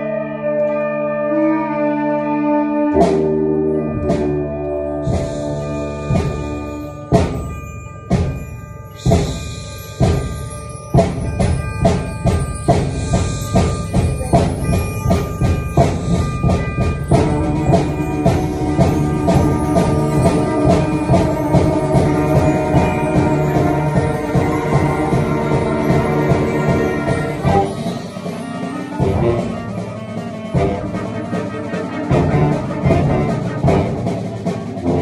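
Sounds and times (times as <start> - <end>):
clarinets playing: 0.0 - 35.0
concert band music: 0.0 - 35.0
percussion hits: 3.0 - 35.0.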